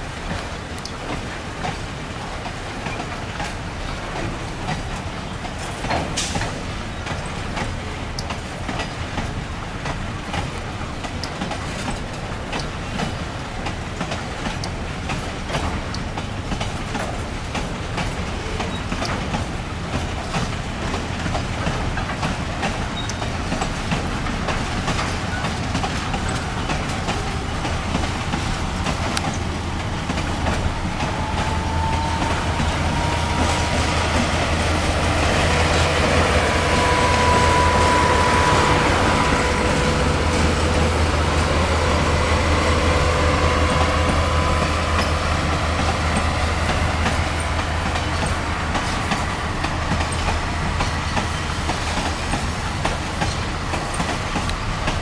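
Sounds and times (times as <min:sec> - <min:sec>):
freight train wagons rumbling: 0:00.0 - 0:55.0
wheels clicking over rail joints: 0:00.0 - 0:55.0.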